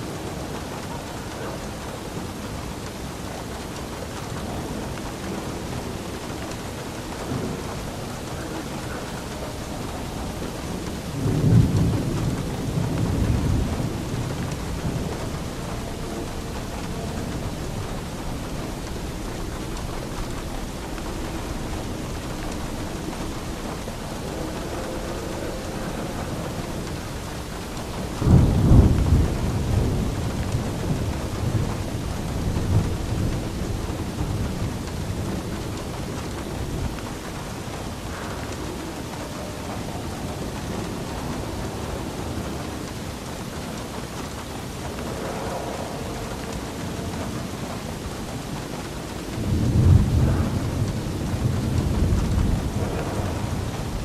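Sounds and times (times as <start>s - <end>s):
steady rain: 0.0s - 54.0s
thunder rumbling: 0.0s - 54.0s.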